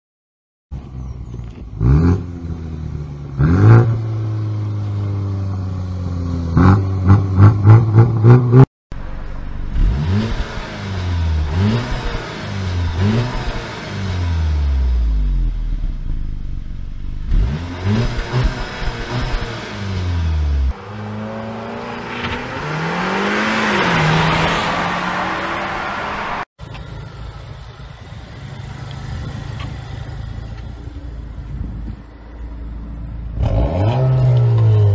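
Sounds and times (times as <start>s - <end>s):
car exhaust revving and idling: 1.6s - 34.9s.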